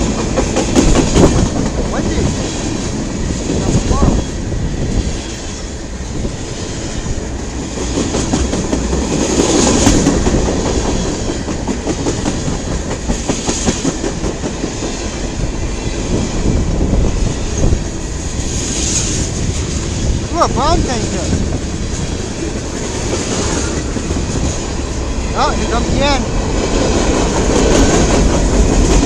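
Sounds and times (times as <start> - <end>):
train wheels clacking over rail joints: 0.0 - 20.0, 21.1 - 29.0.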